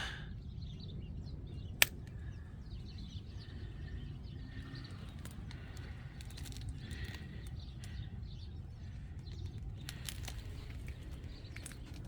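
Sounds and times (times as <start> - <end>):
birds chirping faintly: 0.0 - 12.0
steady low rumble: 0.0 - 12.0.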